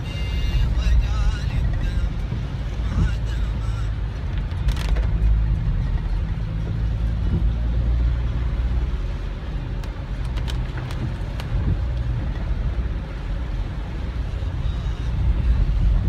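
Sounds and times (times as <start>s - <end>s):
car driving on wet road: 0.0s - 16.0s.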